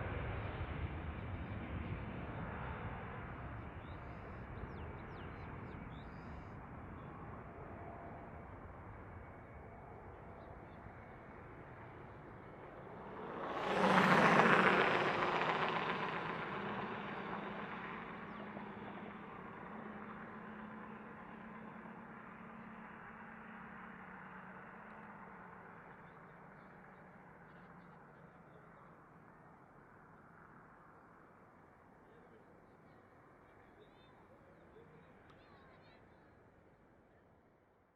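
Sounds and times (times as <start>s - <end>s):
jet engines passing by: 0.0s - 32.3s.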